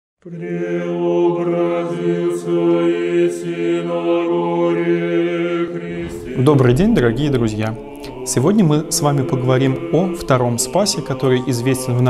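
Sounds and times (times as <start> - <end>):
low voices chanting: 1.0 - 12.0.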